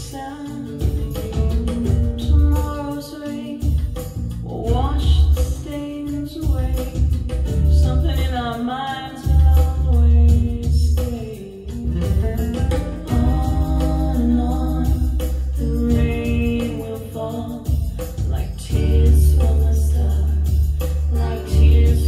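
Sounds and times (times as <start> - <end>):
guitar: 0.0 - 22.0
woman singing: 0.0 - 22.0
deep bass line: 0.7 - 2.6, 3.6 - 5.7, 6.4 - 8.5, 9.2 - 22.0.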